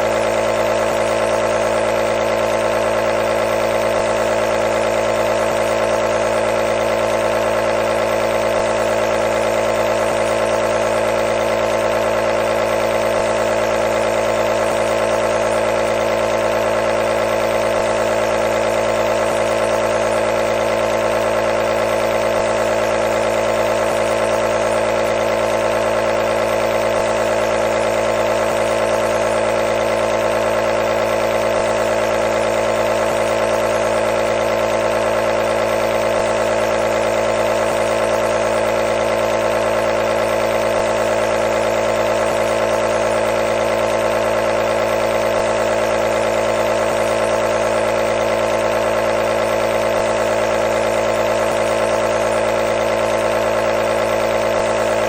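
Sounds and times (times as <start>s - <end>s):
air compressor buzzing hum: 0.0s - 55.0s.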